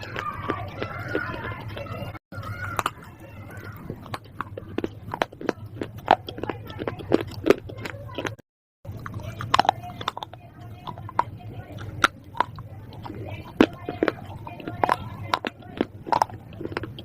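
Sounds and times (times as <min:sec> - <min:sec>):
crunchy chewing and biting: 0:00.0 - 0:17.0
faint low hum: 0:00.0 - 0:17.0.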